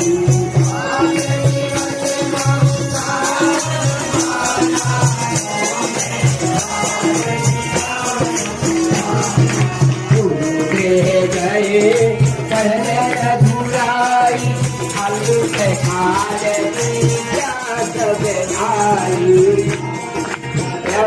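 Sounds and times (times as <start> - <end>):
devotional instrumental music: 0.0 - 21.0.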